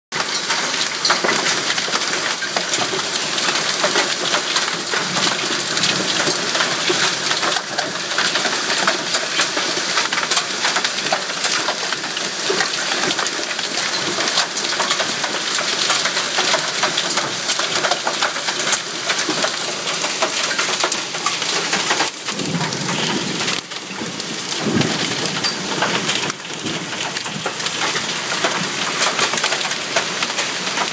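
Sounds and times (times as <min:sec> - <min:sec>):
hailstones clattering on hard surfaces: 0:00.2 - 0:30.9.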